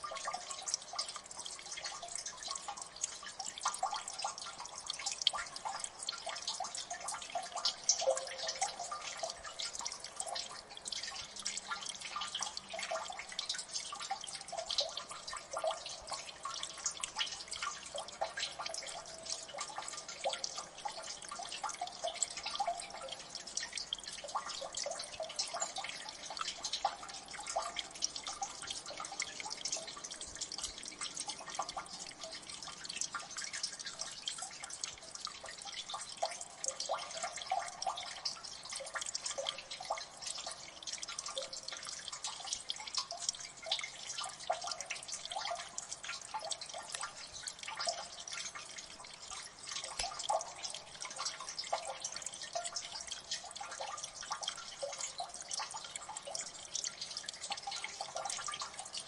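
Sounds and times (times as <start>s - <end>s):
water dripping into water: 0.0s - 59.0s.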